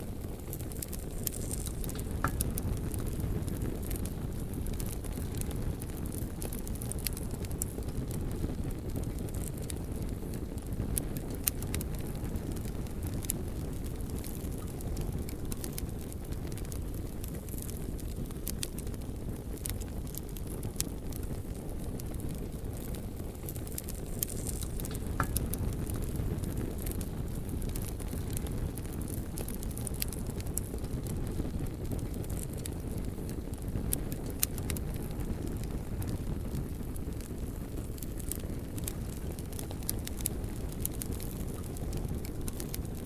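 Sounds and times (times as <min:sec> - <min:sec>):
fire crackling and popping: 0:00.0 - 0:43.0
wood fire burning: 0:00.0 - 0:43.0.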